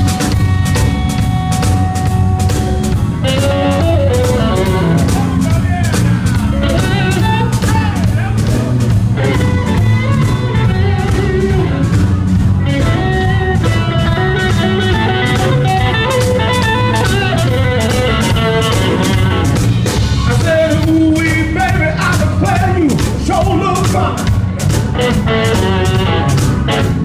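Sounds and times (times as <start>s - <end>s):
bass: 0.0s - 27.0s
drum beat: 0.0s - 27.0s
electric guitar: 0.0s - 27.0s.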